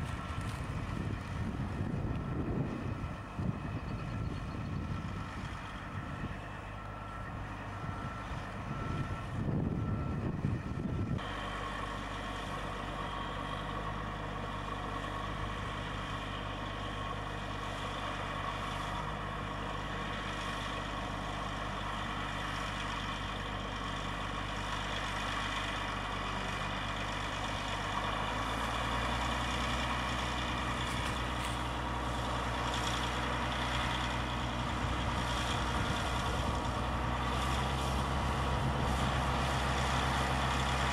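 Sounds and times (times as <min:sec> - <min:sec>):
heavy engine running: 0:00.0 - 0:40.9.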